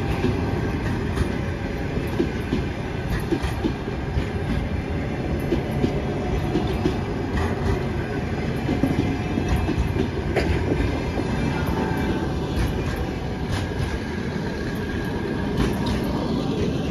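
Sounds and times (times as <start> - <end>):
train wheels rumbling on rail: 0.0 - 16.9
wheels clicking over rail joints: 0.0 - 16.9.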